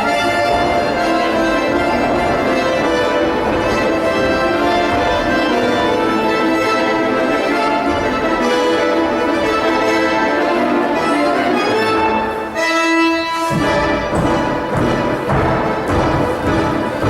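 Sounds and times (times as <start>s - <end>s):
organ-like accompaniment music: 0.0s - 17.0s.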